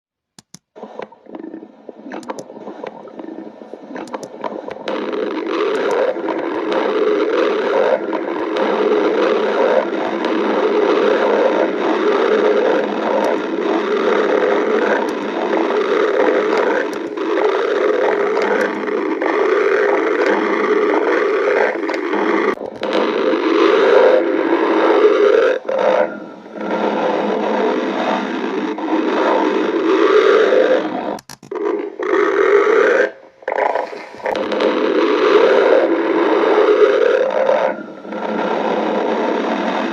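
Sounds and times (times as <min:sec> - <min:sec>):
stomach growling: 0:00.6 - 0:39.9.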